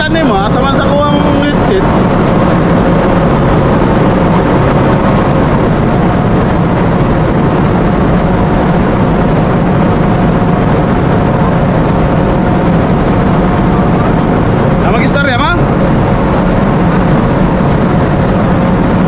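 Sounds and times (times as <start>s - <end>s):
machinery rumbling drone: 0.0s - 19.0s.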